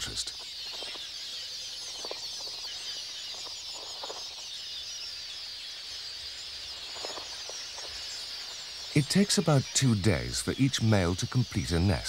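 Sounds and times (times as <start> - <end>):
flock of birds twittering: 0.0 - 12.0.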